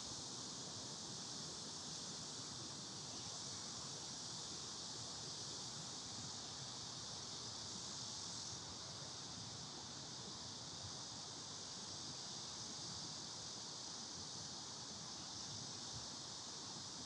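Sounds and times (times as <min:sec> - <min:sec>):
cicada chorus drone: 0:00.0 - 0:17.0.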